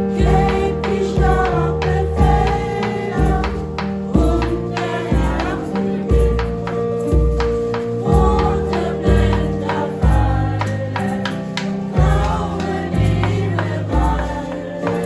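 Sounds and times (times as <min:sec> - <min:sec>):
group of voices singing: 0:00.0 - 0:15.0
instrumental backing with bass: 0:00.0 - 0:15.0.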